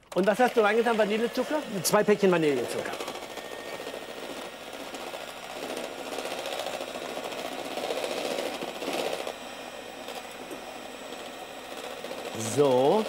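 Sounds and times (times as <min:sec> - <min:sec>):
electric hand mixer whipping cream: 0:00.0 - 0:13.0.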